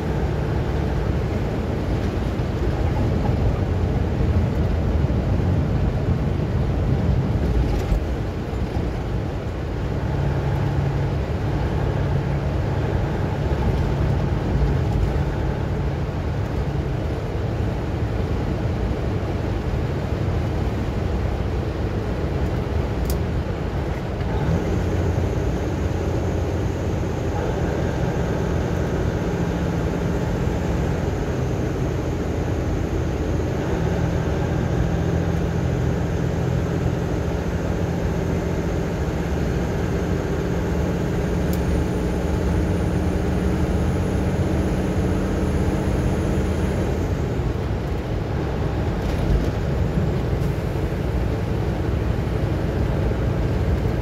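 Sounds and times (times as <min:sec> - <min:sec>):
road and engine rumble in cabin: 0:00.0 - 0:54.0.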